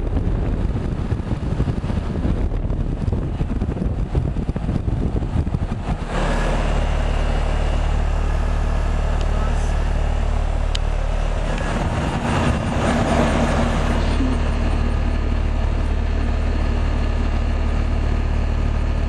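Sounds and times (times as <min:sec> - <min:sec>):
uneven rumble: 0:00.0 - 0:19.0.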